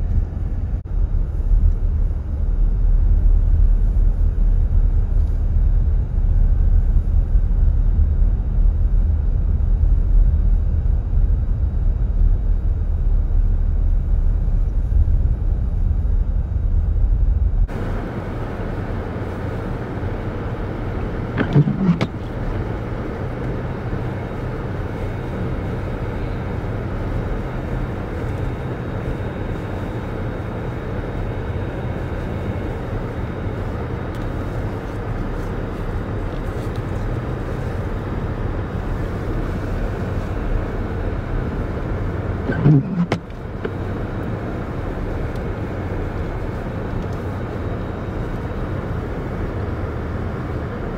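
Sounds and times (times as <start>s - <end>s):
road noise: 0.0s - 50.9s
vehicle driving on snowy road: 0.0s - 50.9s.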